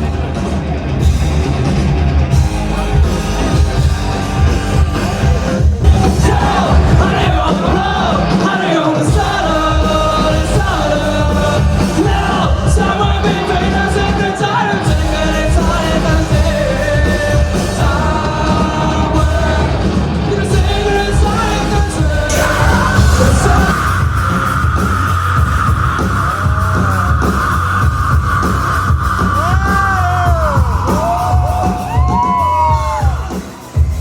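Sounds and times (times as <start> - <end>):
heavy drums: 0.0 - 34.0
live rock band playing: 0.0 - 34.0
lead singer singing: 4.5 - 34.0.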